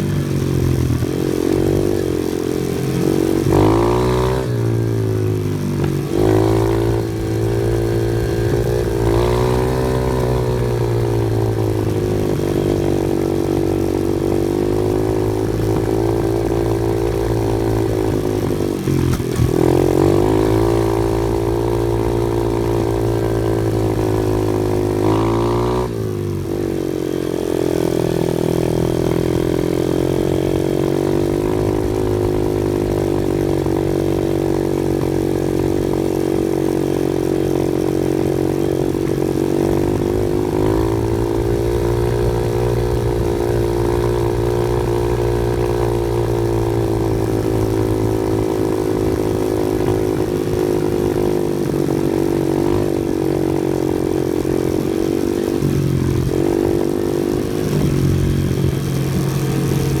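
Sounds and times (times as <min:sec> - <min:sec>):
off-road vehicle engine: 0:00.0 - 1:00.0.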